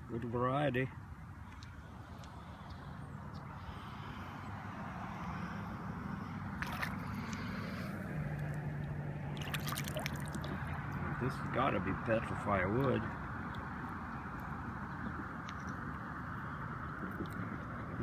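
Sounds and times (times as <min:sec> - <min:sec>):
low steady hum: 0:00.0 - 0:18.0
river water trickling and sloshing: 0:01.0 - 0:18.0.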